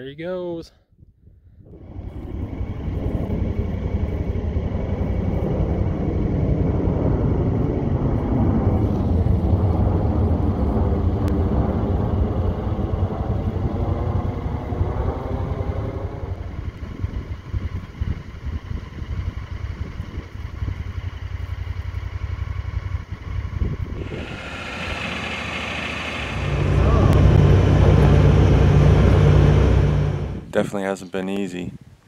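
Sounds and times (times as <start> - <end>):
tiltrotor aircraft flying overhead: 1.6 - 30.5.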